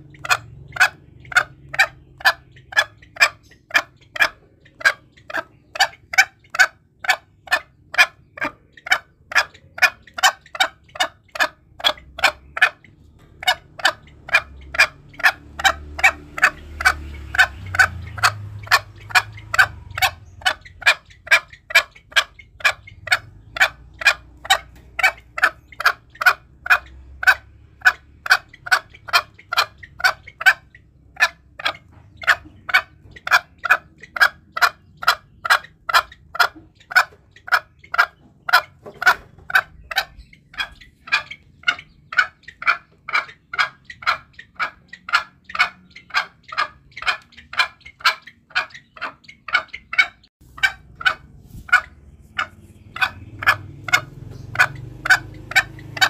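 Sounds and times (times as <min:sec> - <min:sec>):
junglefowl clucking: 0:00.0 - 0:56.0.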